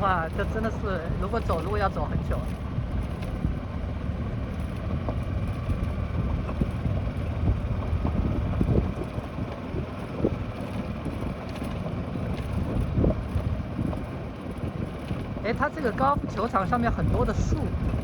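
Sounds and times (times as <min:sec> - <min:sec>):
golf cart rumbling: 0:00.0 - 0:18.0
wind buffeting microphone: 0:00.0 - 0:18.0.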